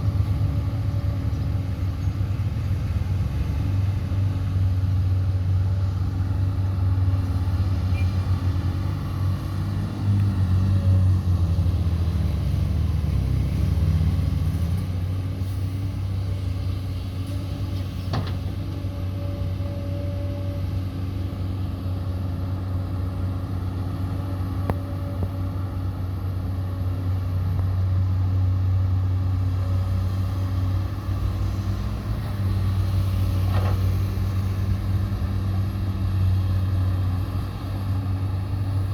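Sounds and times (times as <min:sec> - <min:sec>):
truck engine low rumble: 0:00.0 - 0:38.9.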